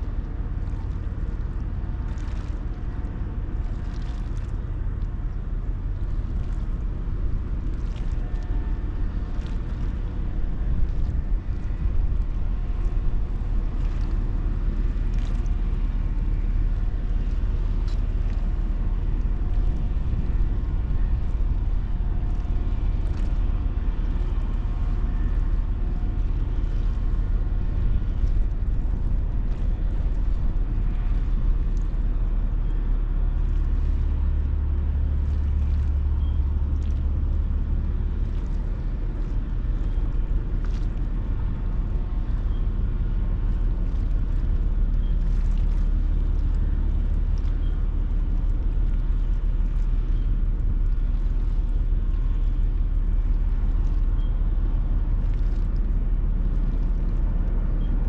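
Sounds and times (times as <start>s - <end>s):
deep hum: 0.0s - 58.0s
ferry engine rumble: 0.0s - 58.0s.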